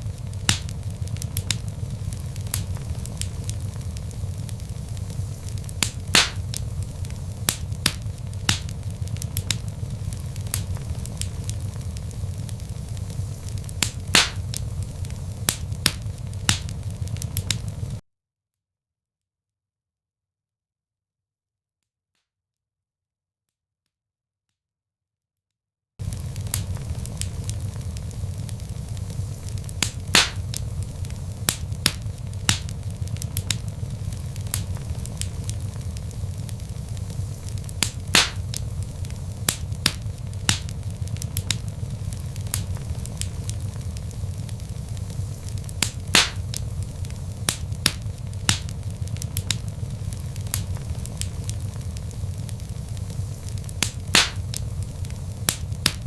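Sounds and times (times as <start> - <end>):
low rumble of burning logs: 0.0 - 18.0, 26.0 - 56.0
wood fire crackling: 0.0 - 18.0, 26.0 - 56.0.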